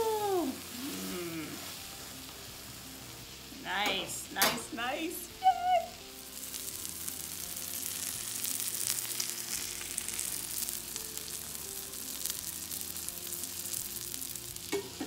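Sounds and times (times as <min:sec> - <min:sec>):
sandwich sizzling in a pan: 0:00.0 - 0:15.0.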